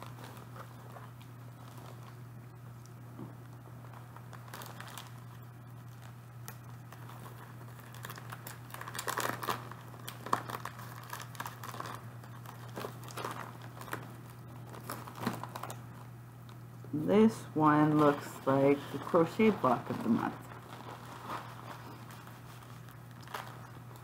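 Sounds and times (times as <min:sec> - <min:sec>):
plastic bag crinkling: 0:00.0 - 0:16.2, 0:17.3 - 0:24.0
low steady hum: 0:00.0 - 0:24.0.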